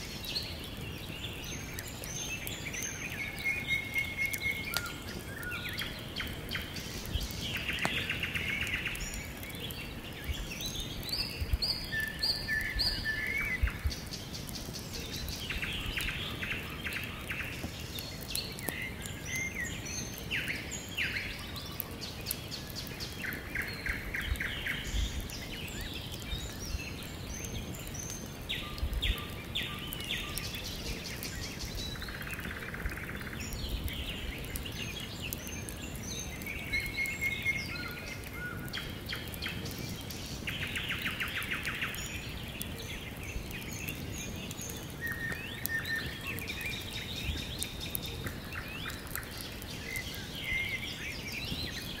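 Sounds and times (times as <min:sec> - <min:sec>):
songbirds singing and trilling: 0:00.0 - 0:52.0.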